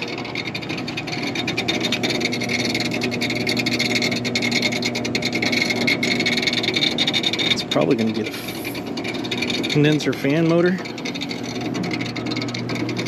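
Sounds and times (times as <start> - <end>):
air conditioning unit humming: 0.0 - 13.0
fan rattling and scraping: 0.0 - 13.0.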